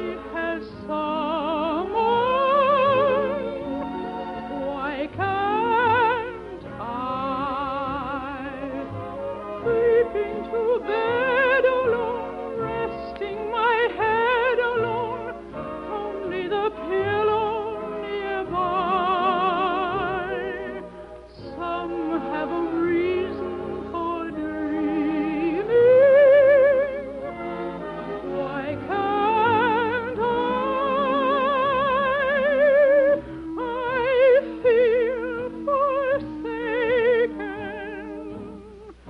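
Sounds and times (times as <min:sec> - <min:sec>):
operatic soprano singing: 0:00.0 - 0:39.0
orchestral accompaniment: 0:00.0 - 0:39.0.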